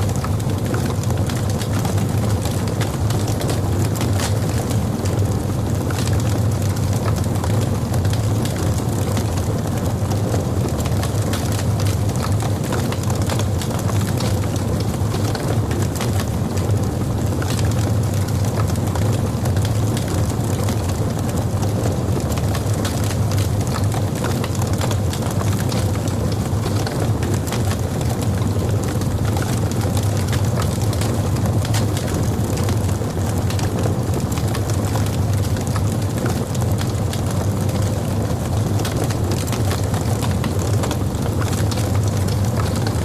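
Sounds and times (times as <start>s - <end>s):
fire crackling in fireplace: 0.0s - 43.0s.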